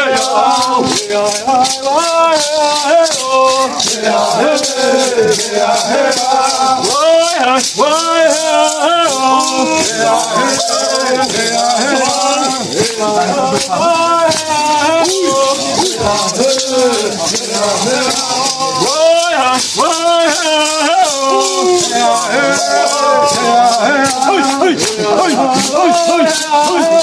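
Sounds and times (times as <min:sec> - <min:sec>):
maraca rattle: 0:00.0 - 0:27.0
voices singing a chant: 0:00.0 - 0:27.0.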